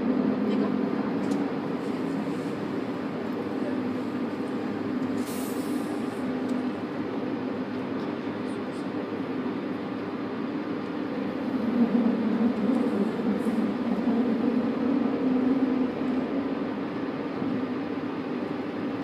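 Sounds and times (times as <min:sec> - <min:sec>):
low motor hum: 0:00.0 - 0:19.0
train wheels on rails: 0:00.0 - 0:19.0.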